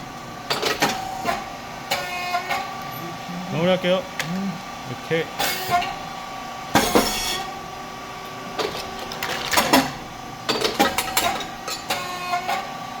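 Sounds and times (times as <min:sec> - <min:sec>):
machine whine: 0:00.0 - 0:13.0.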